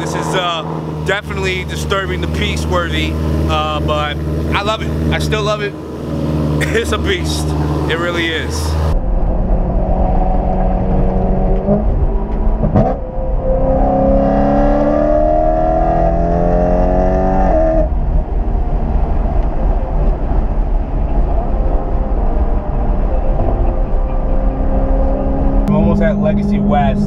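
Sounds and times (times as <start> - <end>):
performance car engine and exhaust: 0.0 - 27.0.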